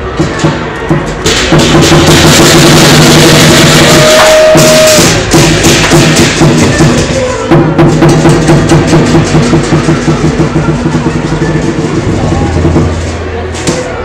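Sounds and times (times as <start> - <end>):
gongs: 0.0 - 13.3
cymbals crashing: 0.0 - 13.4
drum: 0.0 - 13.9.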